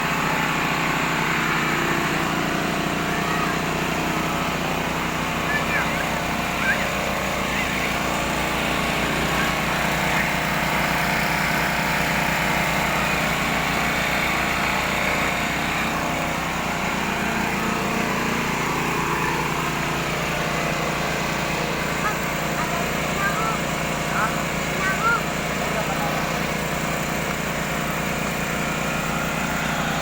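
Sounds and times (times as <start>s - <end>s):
pump motor humming: 0.0s - 30.0s.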